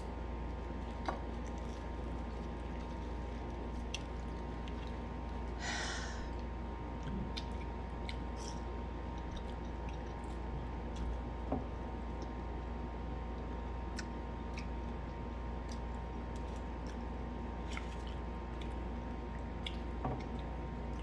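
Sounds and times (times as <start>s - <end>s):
steady background hum: 0.0s - 21.0s
person chewing food: 0.5s - 11.4s, 13.4s - 21.0s.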